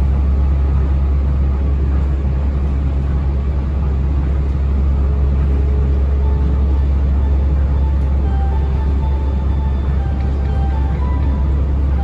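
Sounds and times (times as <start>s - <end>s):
monorail cabin rumble: 0.0s - 12.0s.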